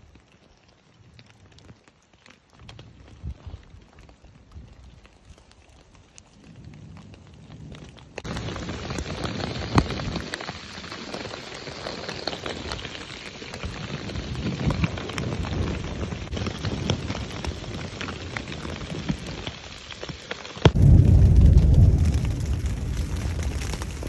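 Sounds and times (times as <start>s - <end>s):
hailstones ticking: 0.0s - 24.0s
rain pattering: 0.0s - 24.0s.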